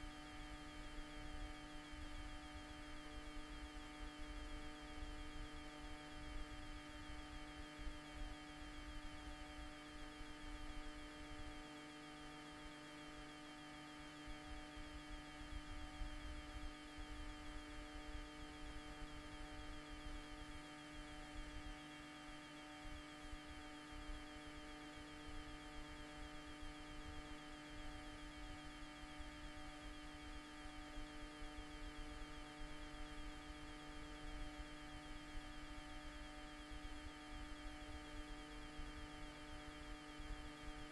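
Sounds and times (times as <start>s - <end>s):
steady electrical hum: 0.0s - 40.9s.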